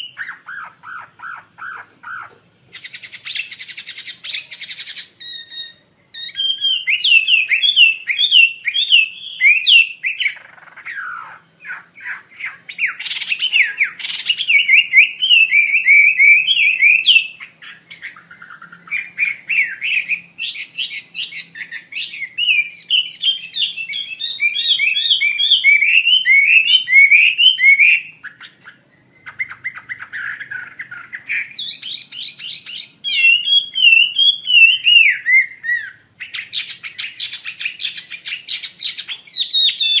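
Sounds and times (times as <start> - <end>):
songbird whistling: 0.0 - 40.0.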